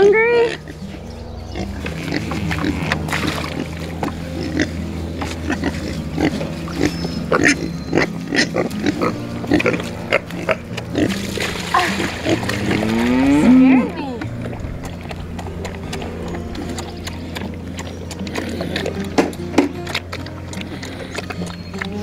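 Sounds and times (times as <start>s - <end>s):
pigs grunting and eating: 0.0s - 22.0s.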